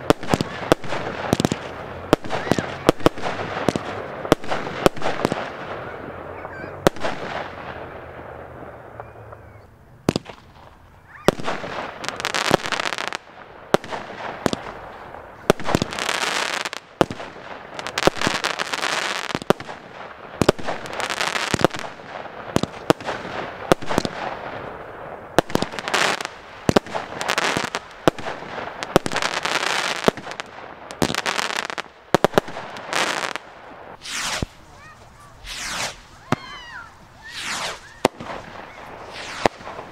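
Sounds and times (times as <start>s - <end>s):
firework stars crackling: 0.0s - 39.9s.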